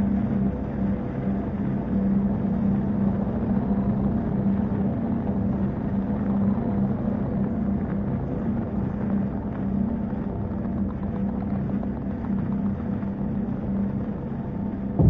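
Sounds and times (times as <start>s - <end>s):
machine-like hum: 0.0s - 15.0s.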